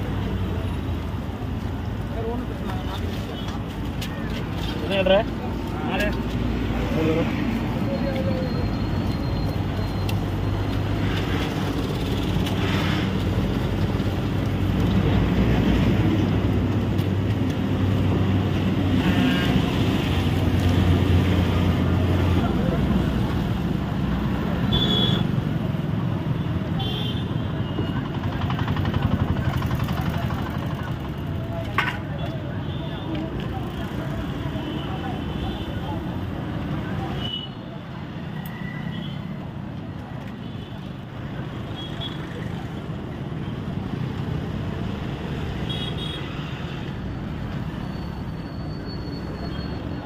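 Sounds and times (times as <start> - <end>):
rumble of passing vehicles: 0.0 - 50.0.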